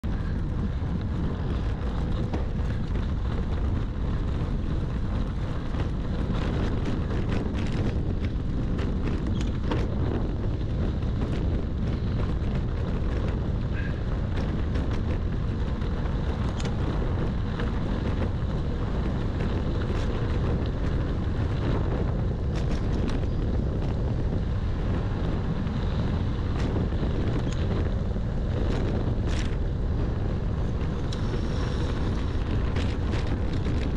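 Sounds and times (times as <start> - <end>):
wind rumble on microphone: 0.0 - 33.9.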